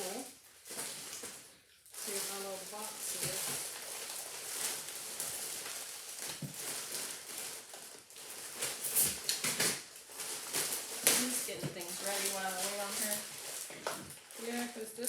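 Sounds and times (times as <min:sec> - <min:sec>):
packaging ripping: 0:00.0 - 0:15.0
packaging rustling and crinkling: 0:00.0 - 0:15.0.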